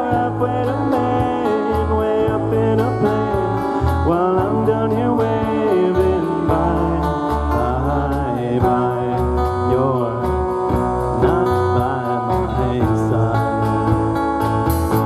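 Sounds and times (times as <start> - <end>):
acoustic guitar: 0.0 - 15.0
drum kit steady beat: 0.0 - 15.0
electric bass: 0.0 - 15.0
electric guitar melody: 0.0 - 15.0.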